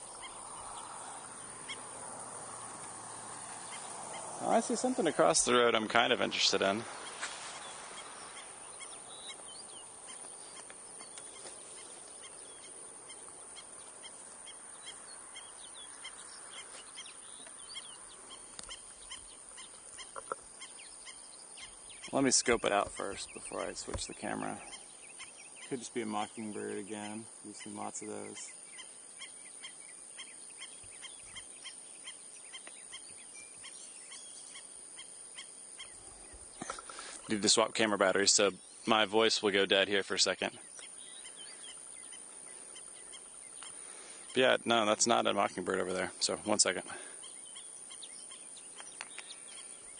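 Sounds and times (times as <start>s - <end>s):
birds chirping: 0.0s - 49.9s
steady outdoor hiss: 0.0s - 49.9s.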